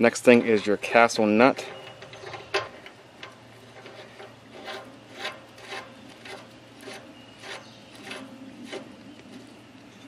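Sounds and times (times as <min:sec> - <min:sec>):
metal nut scraping on threads: 0:00.0 - 0:09.5.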